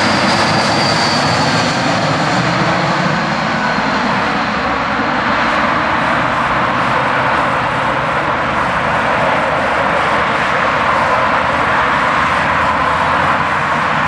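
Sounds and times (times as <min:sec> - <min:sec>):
airliner jet noise: 0:00.0 - 0:14.0.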